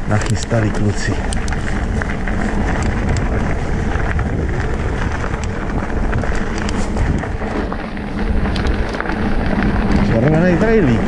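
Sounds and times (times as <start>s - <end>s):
bike clicks and rattles: 0.0s - 11.0s
fat tyres rumbling on dirt: 0.0s - 11.0s
wind over microphone: 0.0s - 11.0s.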